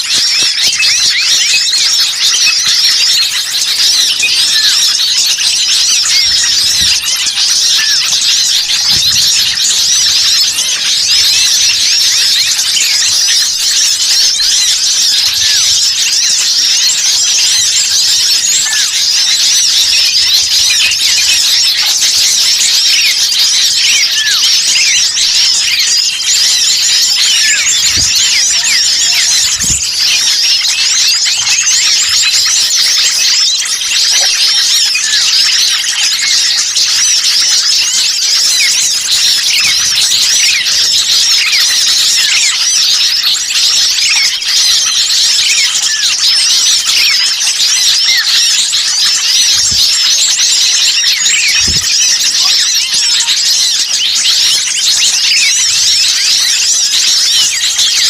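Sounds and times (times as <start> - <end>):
chorus of small songbirds chirping: 0.0 - 58.0.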